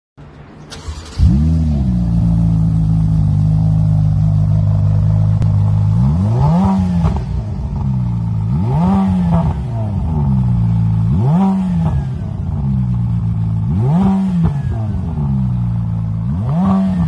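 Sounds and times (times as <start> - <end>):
car engine starting and idling: 0.2 - 16.7
engine revving: 0.7 - 17.0.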